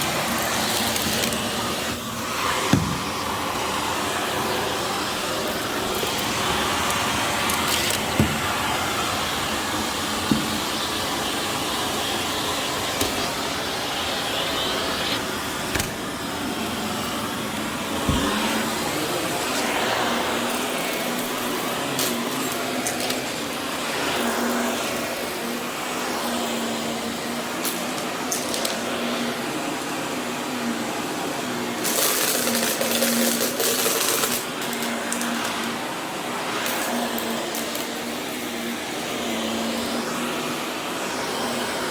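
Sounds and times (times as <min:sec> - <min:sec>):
vacuum cleaner running on carpet: 0:00.0 - 0:41.9.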